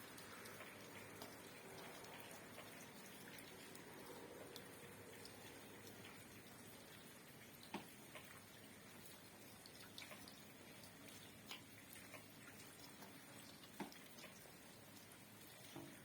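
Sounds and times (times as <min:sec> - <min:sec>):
light rain patter: 0:00.0 - 0:16.0
water drops dripping: 0:00.0 - 0:16.0.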